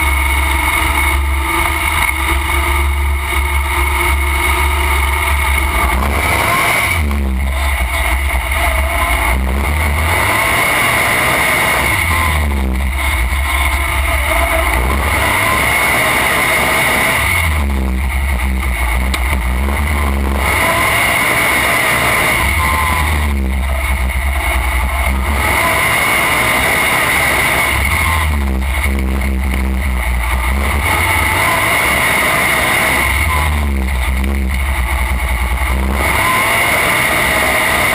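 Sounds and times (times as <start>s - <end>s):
lawn tractor engine revving: 0.0s - 37.9s.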